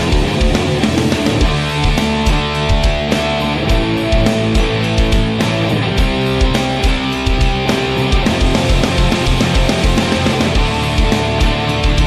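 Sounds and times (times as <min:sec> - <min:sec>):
distorted electric guitar chords: 0:00.0 - 0:12.0
steady drum beat: 0:00.0 - 0:12.0.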